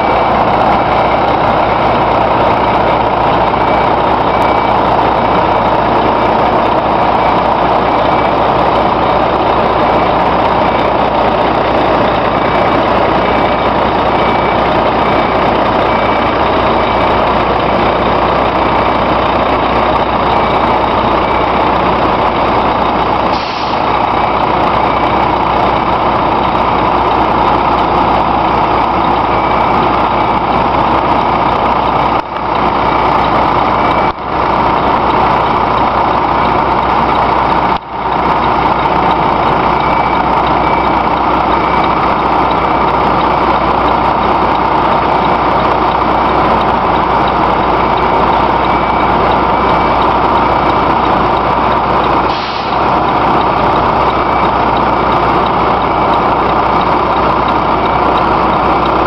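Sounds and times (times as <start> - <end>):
electronic warning beeper: 0.0 - 59.0
truck diesel engine running: 0.0 - 59.0.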